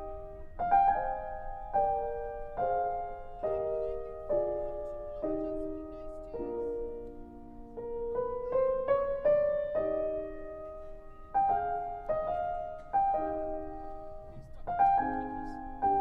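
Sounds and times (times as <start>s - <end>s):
piano chords: 0.0s - 16.0s
rising piano run: 0.0s - 16.0s.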